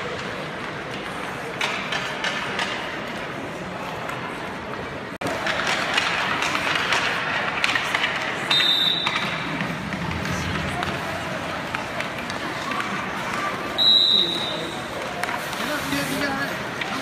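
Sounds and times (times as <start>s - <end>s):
hockey sticks clacking on ice: 0.0s - 17.0s
skates scraping on ice: 0.0s - 17.0s.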